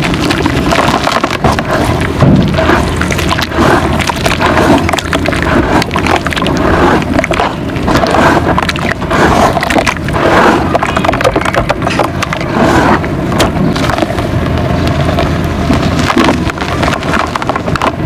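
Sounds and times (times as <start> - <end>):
hands squishing mud: 0.0 - 18.0.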